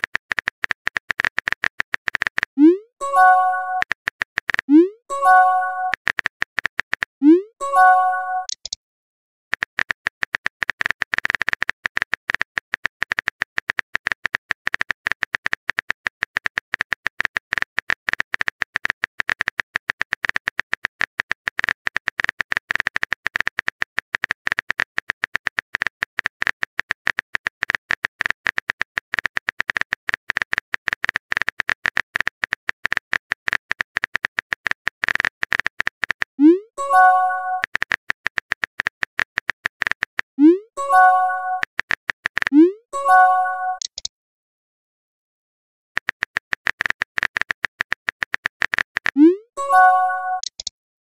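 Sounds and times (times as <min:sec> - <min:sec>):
keyboard typing clicks: 0:00.0 - 0:08.8, 0:09.5 - 0:44.1, 0:46.0 - 0:50.7.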